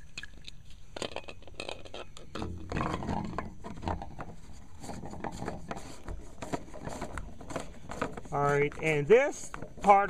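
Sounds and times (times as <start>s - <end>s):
plastic pipes scraping and clicking: 0.0s - 10.0s.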